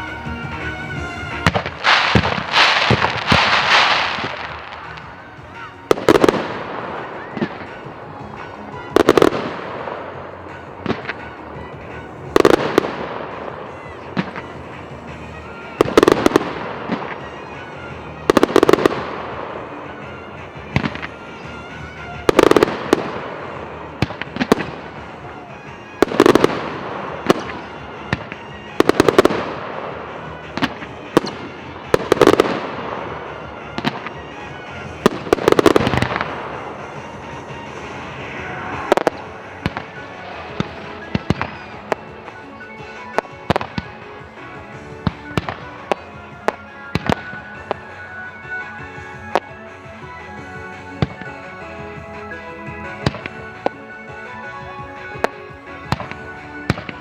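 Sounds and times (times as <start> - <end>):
firework cracks: 0.0 - 57.0
fireworks booming: 0.0 - 57.0
small firework pops: 1.4 - 57.0.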